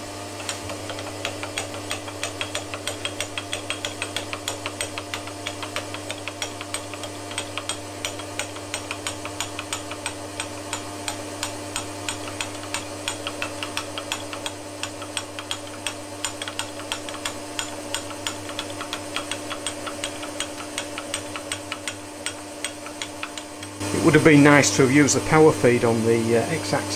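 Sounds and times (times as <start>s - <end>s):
milling machine motor hum: 0.0s - 26.9s
sharp ticks of cutter in metal: 0.4s - 23.8s.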